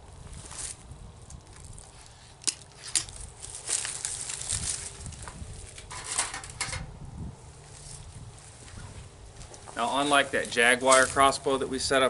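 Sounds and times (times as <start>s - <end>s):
shuffling footsteps: 0.1s - 6.6s, 7.6s - 12.0s
scraping and rustling handling: 0.3s - 6.9s, 7.6s - 11.6s.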